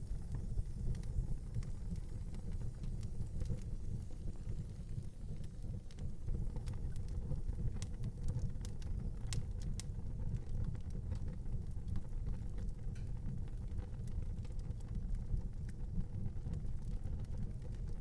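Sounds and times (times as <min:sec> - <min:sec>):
fire crackles and pops: 0:00.0 - 0:18.0
low rumble of flames: 0:00.0 - 0:18.0.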